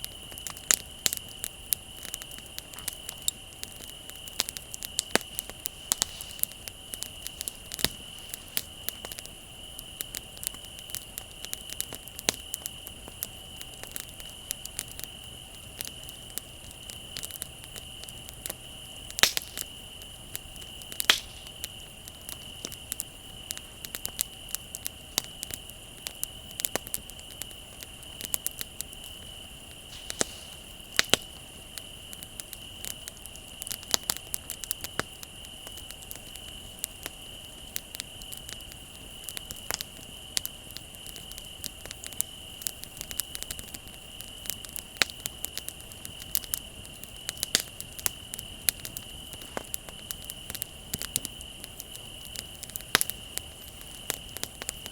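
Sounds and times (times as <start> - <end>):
crickets trilling: 0.0 - 54.9
wood fire crackling and popping: 0.0 - 54.9.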